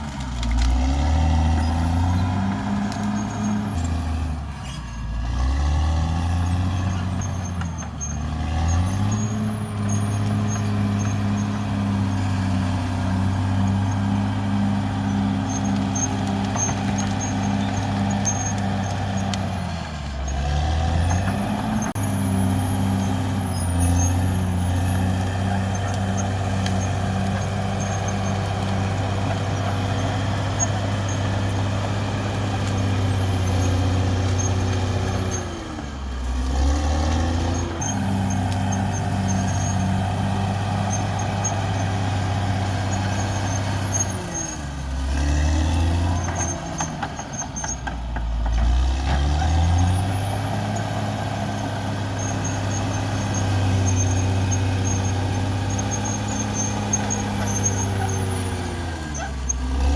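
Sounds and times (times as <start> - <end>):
bulldozer diesel engine running hard: 0.0 - 59.9.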